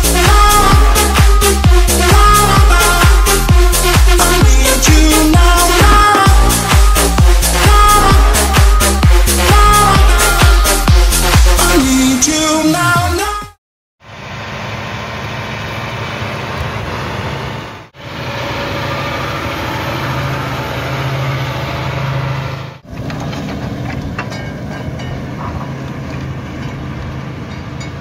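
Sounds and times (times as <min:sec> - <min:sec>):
tractor diesel engine under load: 0:00.0 - 0:12.6, 0:14.0 - 0:28.0.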